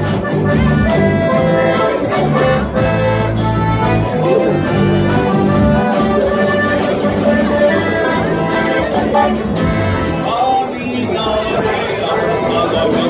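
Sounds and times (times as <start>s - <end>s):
plucked string ensemble playing: 0.0s - 13.0s.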